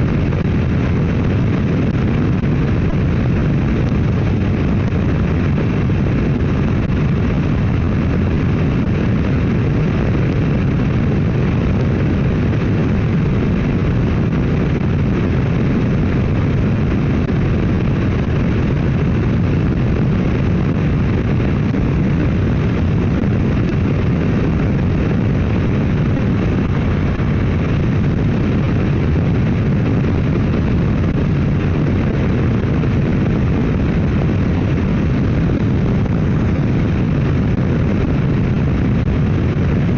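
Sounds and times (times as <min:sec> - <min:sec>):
motorcycle engine: 0:00.0 - 0:39.9
wind rush: 0:00.0 - 0:39.9.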